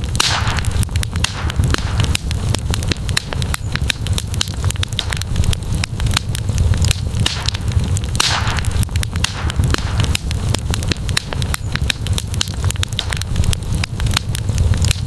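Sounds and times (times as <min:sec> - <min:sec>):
campfire crackling and popping: 0:00.0 - 0:15.0
low rumble of flames: 0:00.0 - 0:15.0.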